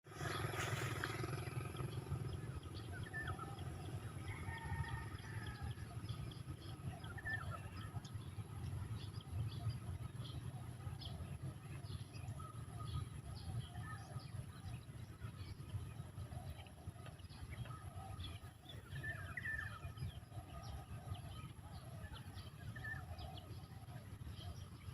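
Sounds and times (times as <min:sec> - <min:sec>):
birds chirping: 0:00.1 - 0:24.9
low rumble: 0:00.1 - 0:24.9.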